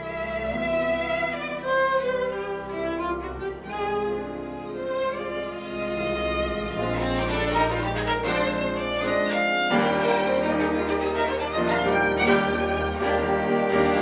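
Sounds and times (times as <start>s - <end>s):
violin melody: 0.0s - 14.0s.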